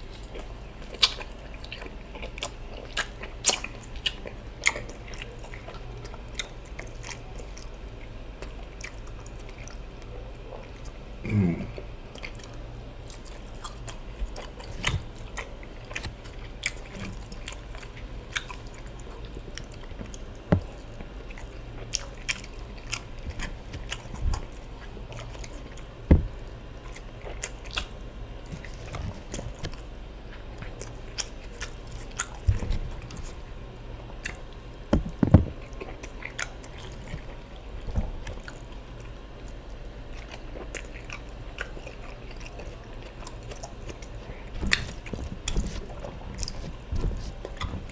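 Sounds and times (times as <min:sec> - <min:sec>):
chewing and mouth smacks: 0:00.0 - 0:11.0, 0:11.6 - 0:47.9.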